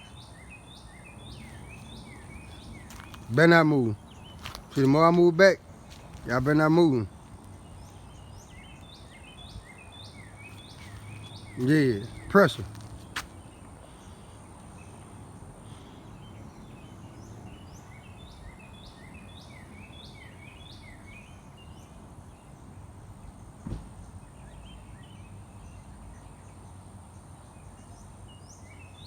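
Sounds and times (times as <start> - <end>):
birds chirping: 0.0 - 23.4.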